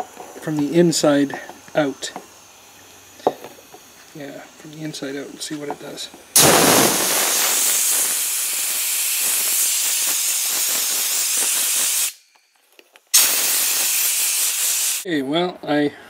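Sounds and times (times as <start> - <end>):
compressed air blow gun hissing: 0.0 - 12.2, 13.1 - 15.1.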